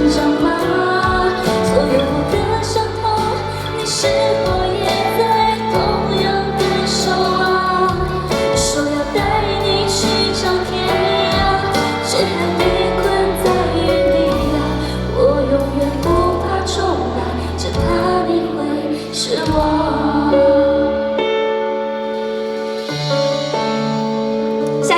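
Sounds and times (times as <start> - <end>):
woman singing pop song: 0.0 - 21.8
instrumental backing track: 0.0 - 24.9.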